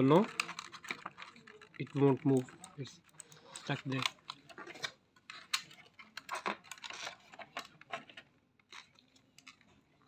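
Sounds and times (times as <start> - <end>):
plastic scrape: 0.0 - 10.0.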